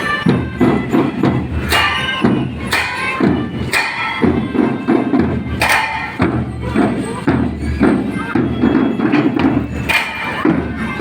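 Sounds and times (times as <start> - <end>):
music with heavy drum beat: 0.0 - 11.0.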